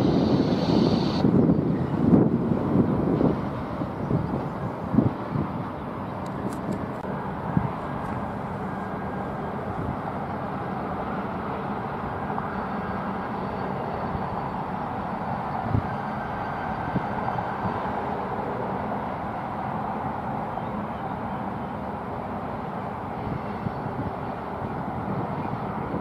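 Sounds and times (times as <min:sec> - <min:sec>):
freight train rumbling past: 0:00.0 - 0:26.0.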